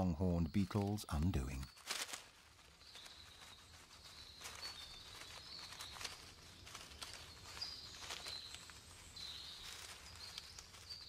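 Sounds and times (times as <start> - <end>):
rustling in leaf litter: 0.6 - 11.0.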